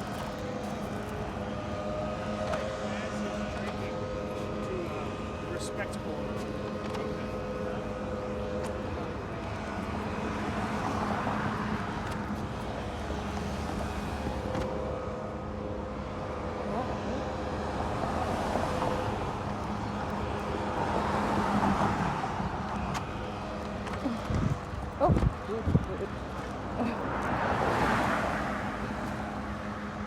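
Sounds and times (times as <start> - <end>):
steady traffic hum: 0.0 - 30.0
vehicles passing: 0.0 - 30.0.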